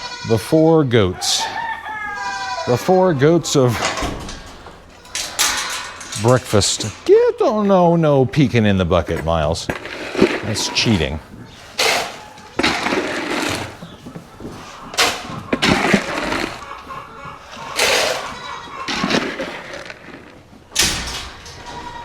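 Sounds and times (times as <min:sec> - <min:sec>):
feed bucket scraping and clattering: 0:00.3 - 0:22.0.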